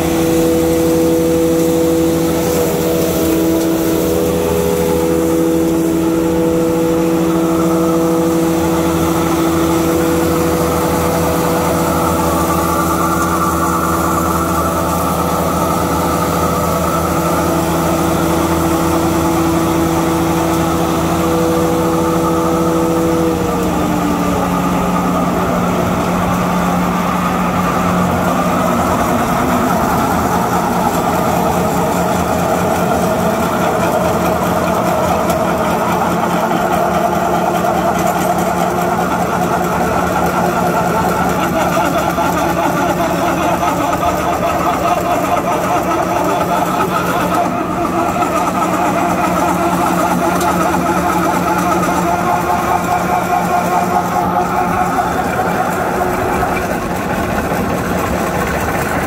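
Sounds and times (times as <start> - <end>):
grinding machine drone with whine: 0.0 - 59.0.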